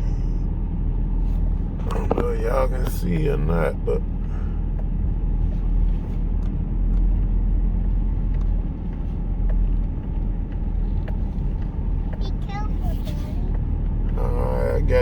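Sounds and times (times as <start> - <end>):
vehicle engine and tyres rumbling: 0.0 - 15.0.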